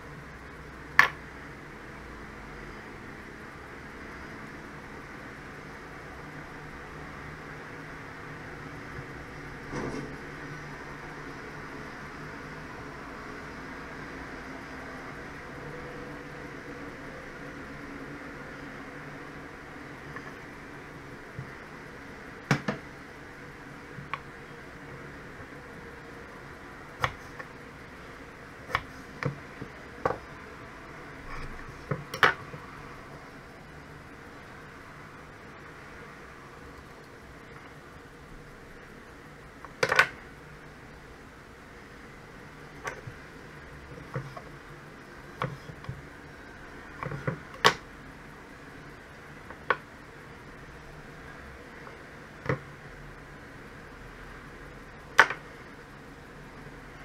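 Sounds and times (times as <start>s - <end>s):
low steady hiss: 0.0s - 57.0s.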